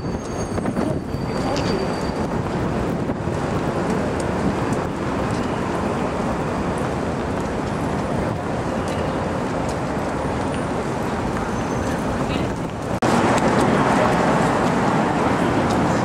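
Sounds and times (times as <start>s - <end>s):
cars and buses passing: 0.0s - 16.0s.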